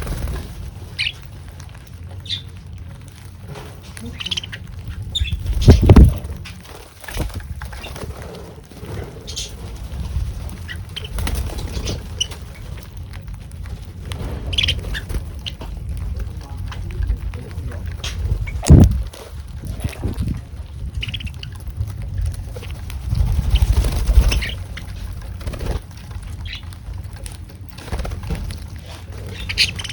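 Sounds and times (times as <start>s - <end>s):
small birds chirping: 0.0s - 29.9s
steady low rumble: 0.0s - 29.9s
wing flutters: 0.0s - 29.9s.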